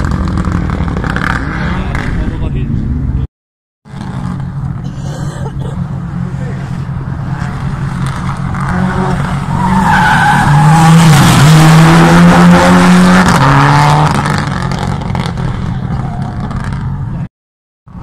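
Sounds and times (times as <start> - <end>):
rally car engine revving: 0.0 - 3.2, 3.9 - 5.0, 5.9 - 16.9.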